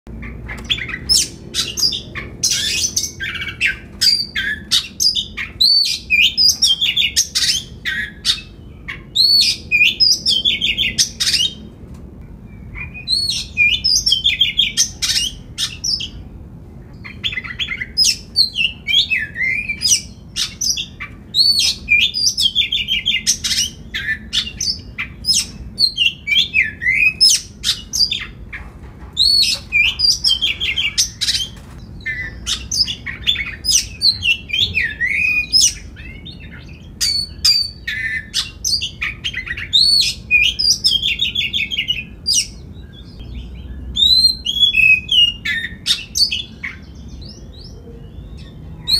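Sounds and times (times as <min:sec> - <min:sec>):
bird singing whistled song: 0:00.5 - 0:11.6, 0:12.4 - 0:16.2, 0:17.0 - 0:28.4, 0:29.2 - 0:48.9.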